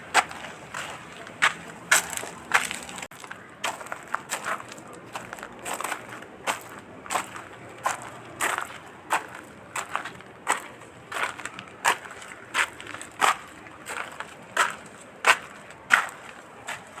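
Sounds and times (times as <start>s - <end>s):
footsteps crunching on forest floor: 0.1s - 17.0s.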